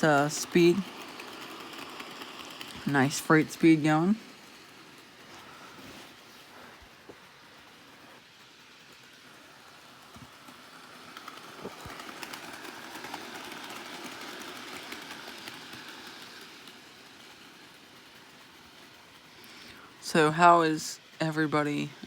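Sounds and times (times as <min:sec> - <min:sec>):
model train wheels clicking: 0:00.0 - 0:22.0.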